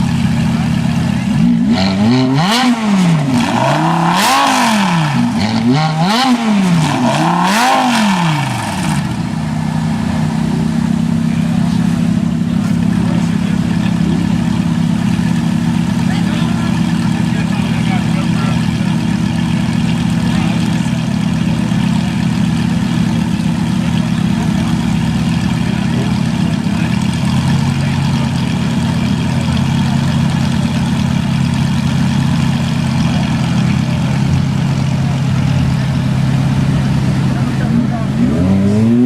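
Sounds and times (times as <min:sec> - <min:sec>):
sports car engine idling: 0:00.0 - 0:39.0.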